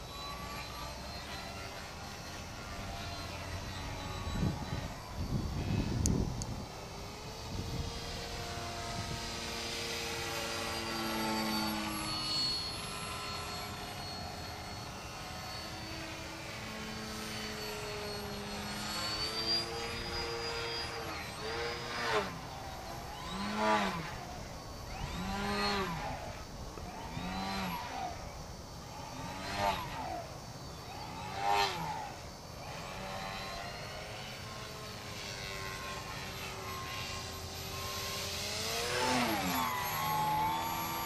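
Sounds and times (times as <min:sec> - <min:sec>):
model airplane motor whine: 0:00.0 - 0:41.0.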